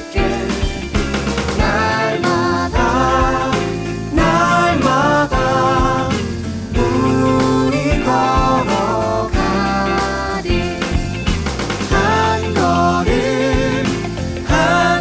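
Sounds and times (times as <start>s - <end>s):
bass guitar: 0.0s - 15.0s
drums: 0.0s - 15.0s
electric guitar: 0.0s - 15.0s
piano: 0.0s - 15.0s
sliding lead melody: 0.0s - 15.0s.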